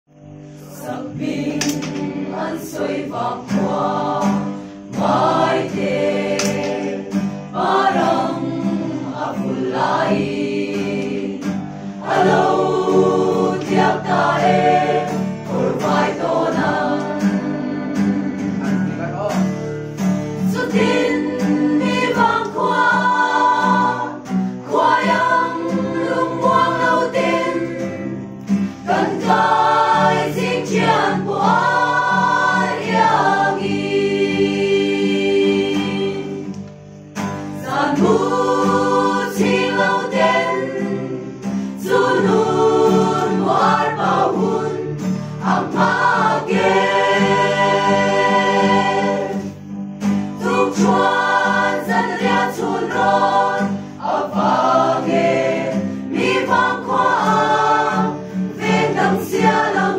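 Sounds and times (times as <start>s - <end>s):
choir of women singing: 0.5s - 19.0s, 20.1s - 36.7s, 37.4s - 59.9s.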